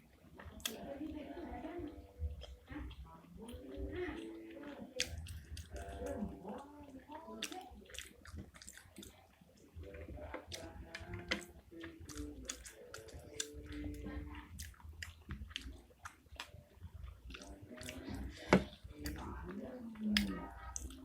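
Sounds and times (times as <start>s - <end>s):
wet chewing: 0.1s - 21.0s.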